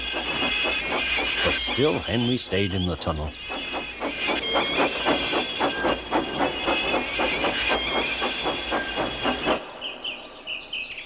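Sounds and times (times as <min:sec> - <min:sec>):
steam locomotive chuffing: 0:00.0 - 0:10.2.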